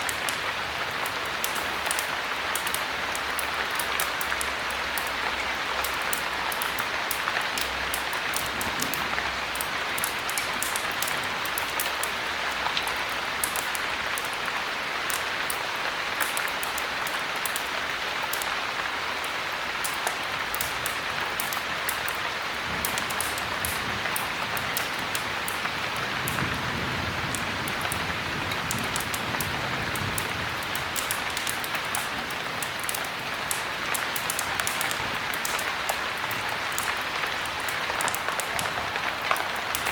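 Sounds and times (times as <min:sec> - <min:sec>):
heavy rain falling: 0:00.0 - 0:39.9
wood fire crackling: 0:00.0 - 0:39.9.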